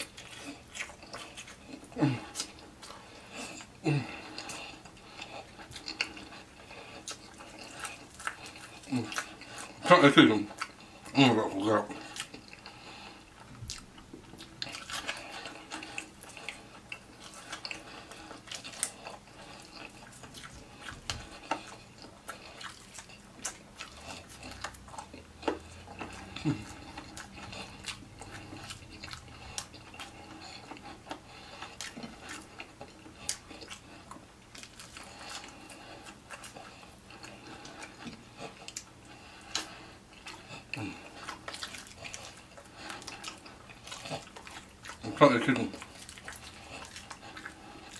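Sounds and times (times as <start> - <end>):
person chewing fried chicken: 0.0 - 47.9.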